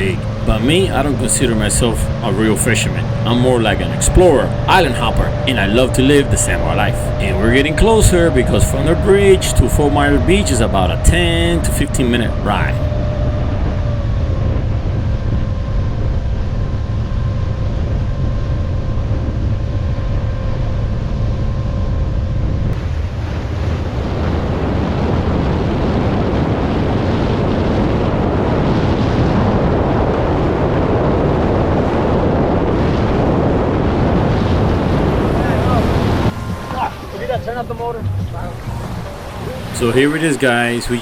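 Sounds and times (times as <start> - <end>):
water rushing past hull: 0.0 - 14.9, 22.8 - 41.0
motorboat engine rumble: 0.0 - 41.0
steady whine: 0.0 - 41.0
wind buffeting microphone: 0.0 - 41.0.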